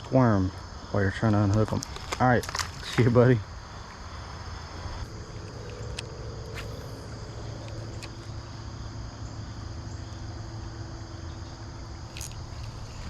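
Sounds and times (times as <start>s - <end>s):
insects chirring: 0.0s - 13.0s
low outdoor rumble: 0.0s - 13.0s.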